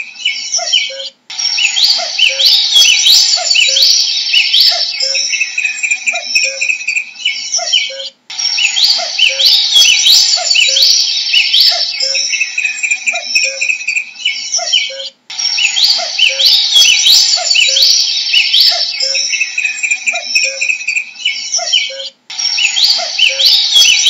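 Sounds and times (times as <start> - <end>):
cuckoo calling: 0.0 - 24.0.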